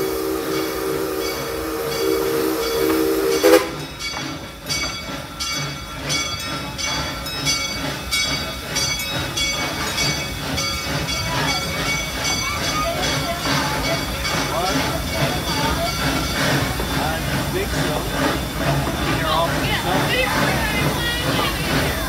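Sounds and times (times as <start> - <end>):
steam locomotive chime whistle: 0.0 - 21.9
train chuffing: 0.0 - 22.0.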